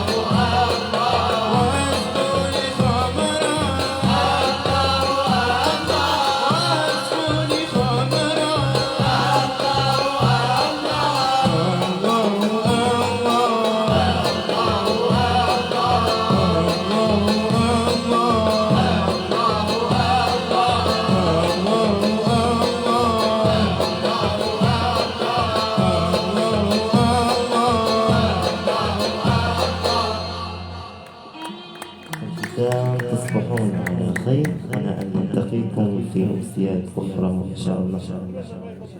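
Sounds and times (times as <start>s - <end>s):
singing with instrumental accompaniment: 0.0s - 38.8s.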